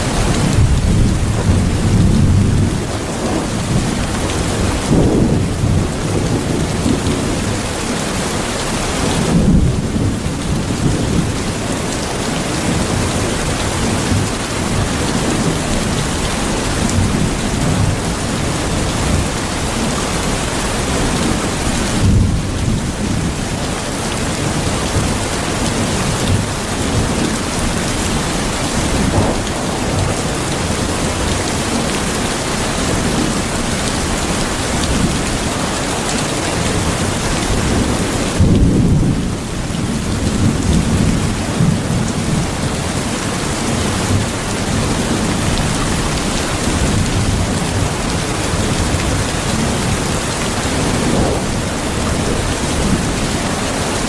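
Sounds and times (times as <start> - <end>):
thunder rumbling: 0.0 - 35.8, 36.5 - 53.8
heavy rain: 0.0 - 54.0.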